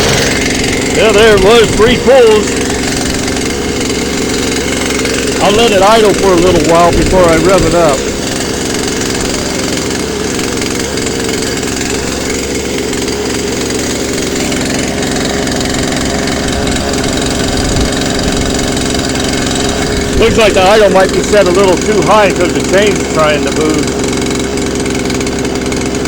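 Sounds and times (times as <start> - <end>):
chainsaw idling: 0.0 - 26.0.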